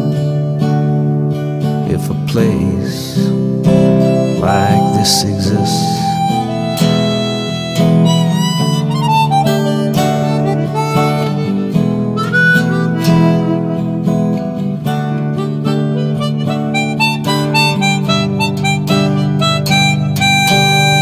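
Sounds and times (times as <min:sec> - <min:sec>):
acoustic guitar strumming: 0:00.0 - 0:21.0
harmonica slow melody: 0:00.0 - 0:21.0.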